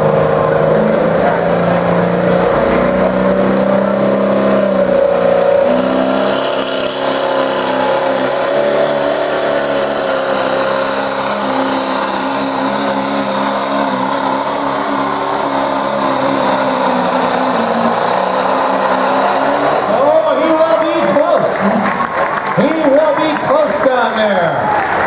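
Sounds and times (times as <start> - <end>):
diesel engine at full throttle: 0.0 - 25.0.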